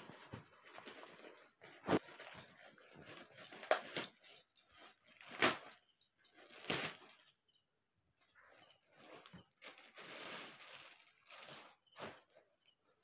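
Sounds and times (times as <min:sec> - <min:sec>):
plastic mailer crinkling: 0:00.0 - 0:07.3, 0:08.8 - 0:12.3.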